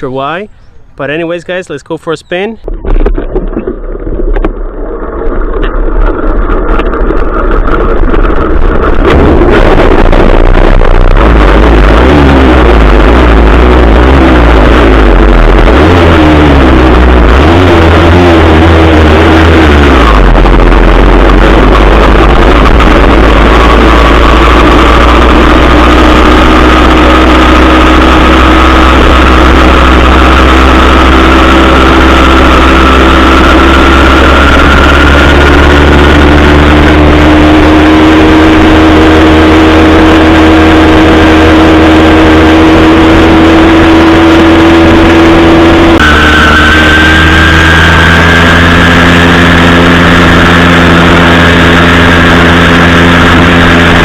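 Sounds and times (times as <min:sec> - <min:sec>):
two-stroke engine running: 0:00.0 - 0:54.0.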